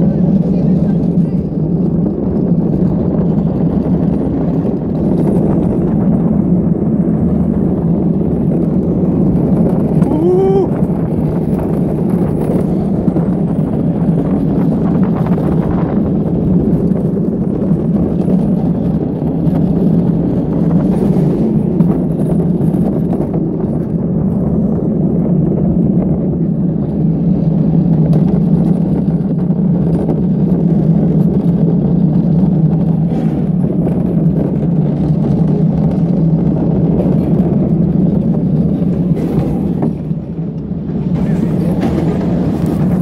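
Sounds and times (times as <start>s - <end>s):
cart wheels rumbling on pavement: 0.0s - 43.0s.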